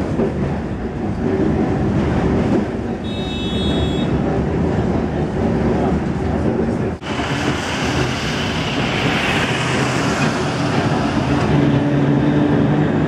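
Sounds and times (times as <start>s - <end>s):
streetcar wheels rumbling on rail: 0.0s - 13.0s.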